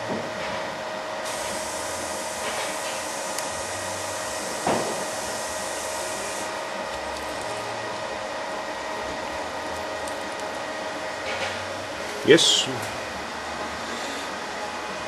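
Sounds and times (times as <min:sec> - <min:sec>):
machinery whirring and humming: 0:00.0 - 0:15.0.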